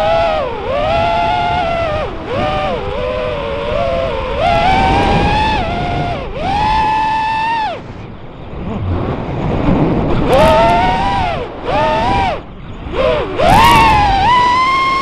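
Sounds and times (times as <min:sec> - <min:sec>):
drone motor whine: 0:00.0 - 0:15.0
wind rush: 0:00.0 - 0:15.0.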